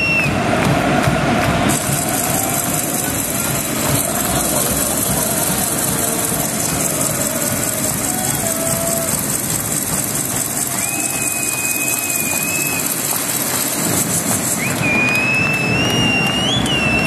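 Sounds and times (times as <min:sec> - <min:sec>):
crowd cheering: 0:00.0 - 0:17.0.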